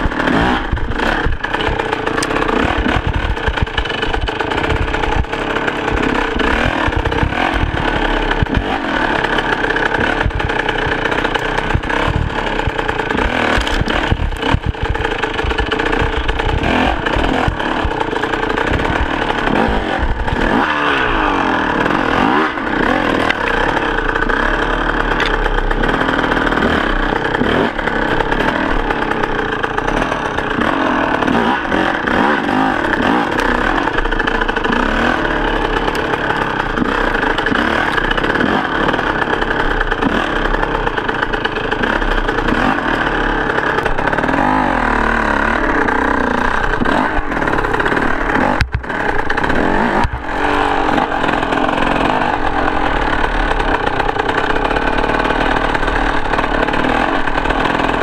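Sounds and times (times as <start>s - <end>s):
bike knocks and rattles: 0.0s - 58.0s
dirt bike engine revving: 0.0s - 58.0s.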